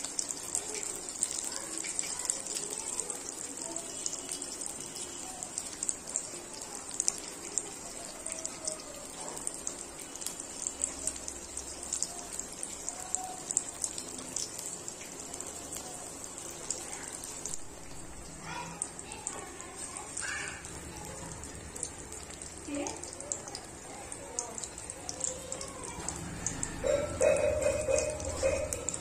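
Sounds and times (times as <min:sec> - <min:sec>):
oil sizzling with crackling pops: 0:00.0 - 0:26.8.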